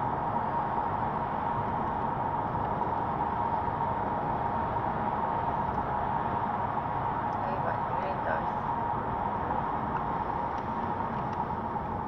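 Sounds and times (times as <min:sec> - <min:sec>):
car cabin road and wind noise: 0:00.0 - 0:12.0.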